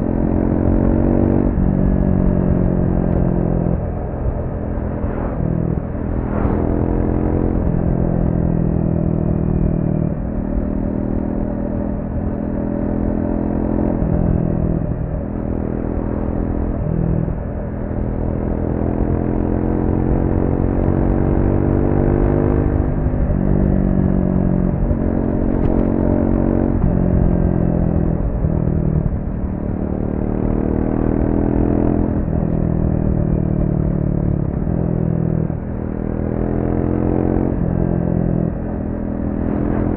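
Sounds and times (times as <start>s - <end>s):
motorcycle engine revving: 0.0s - 17.4s, 18.0s - 39.9s
wind and road rumble: 0.0s - 39.9s.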